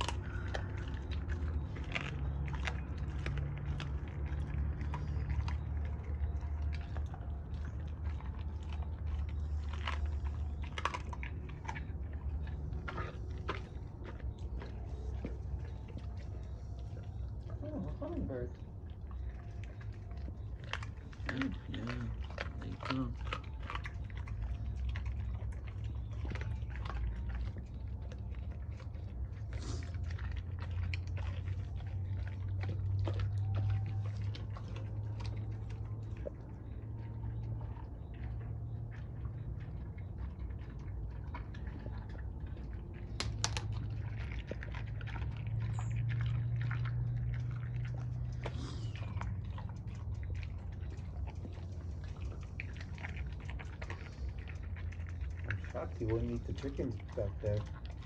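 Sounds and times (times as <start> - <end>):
dog chewing with crunching bites: 0.0 - 58.0
steady low hum: 0.0 - 58.0.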